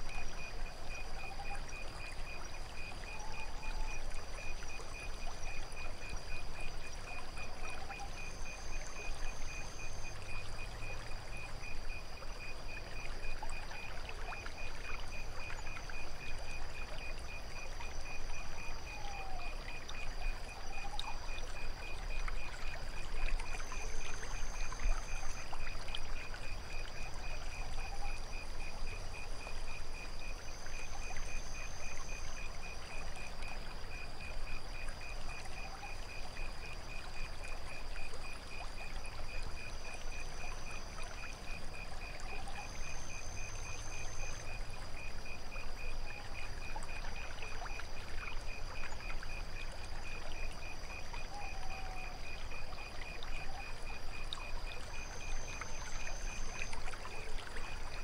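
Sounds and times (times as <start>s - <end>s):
crickets chirping: 0.0s - 58.0s
water trickling: 0.0s - 58.0s.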